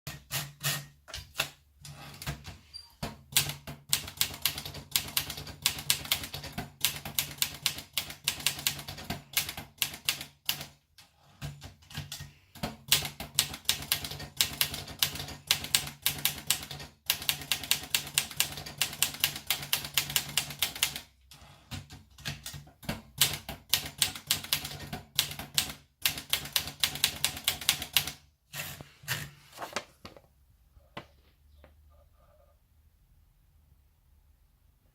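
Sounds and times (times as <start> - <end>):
manual typewriter typing: 0.1 - 28.7.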